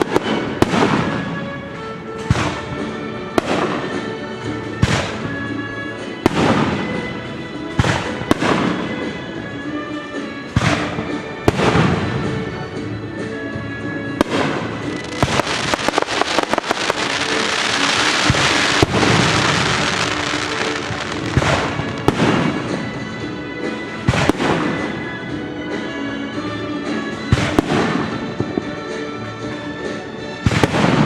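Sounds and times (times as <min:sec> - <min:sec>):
fireworks banging and crackling: 0:00.0 - 0:13.4, 0:14.0 - 0:25.8, 0:26.8 - 0:31.0
orchestral music: 0:00.0 - 0:31.0.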